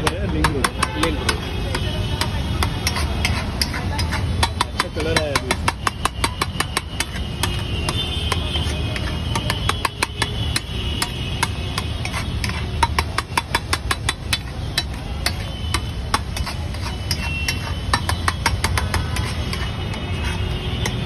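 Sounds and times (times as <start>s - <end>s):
metal spatula scraping metal pan: 0.0s - 21.0s.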